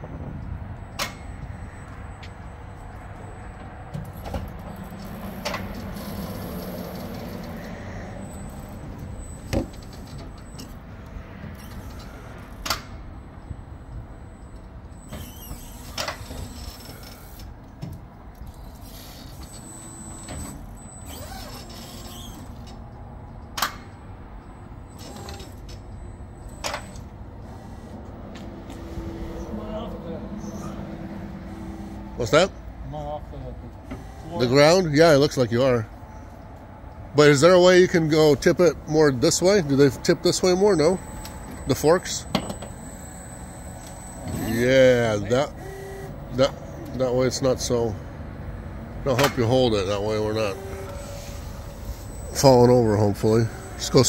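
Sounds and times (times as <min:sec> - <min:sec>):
forklift motor and hydraulic hum: 0:00.0 - 0:32.8, 0:33.5 - 0:35.2, 0:35.8 - 0:54.0.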